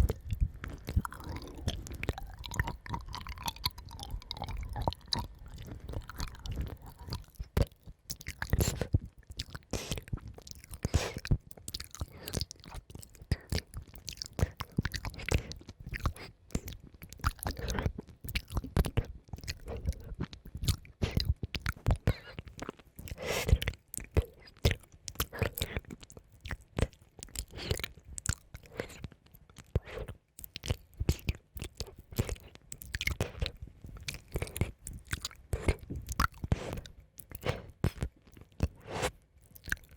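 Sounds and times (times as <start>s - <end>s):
wet mouth clicks: 0.0s - 39.9s.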